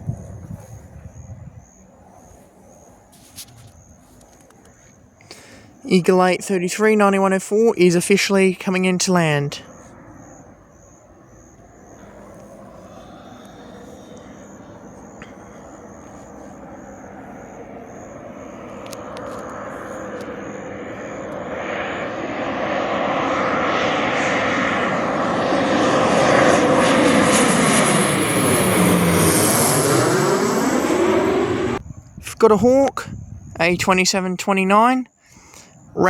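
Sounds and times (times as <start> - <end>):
military aircraft engine: 0.0 - 31.8, 35.1 - 35.9.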